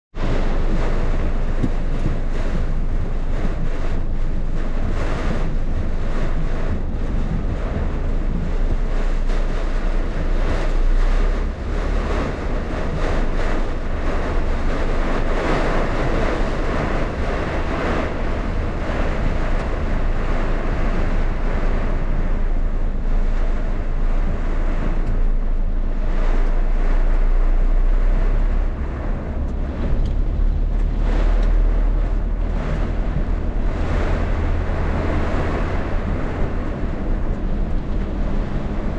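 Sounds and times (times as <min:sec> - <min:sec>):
wind: 0:00.1 - 0:38.9
wind rumble on microphone: 0:00.1 - 0:38.9
pouring rain: 0:00.2 - 0:38.9.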